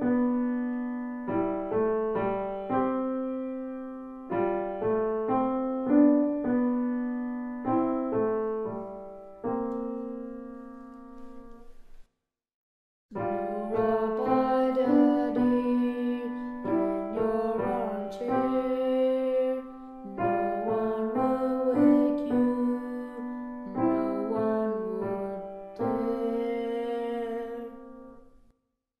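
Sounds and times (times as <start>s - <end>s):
slow piano piece: 0.0s - 12.1s, 13.1s - 28.5s.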